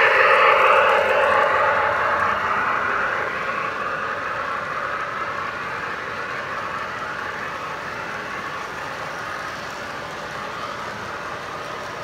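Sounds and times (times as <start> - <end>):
model train wheels rolling on rails: 0.0 - 12.0.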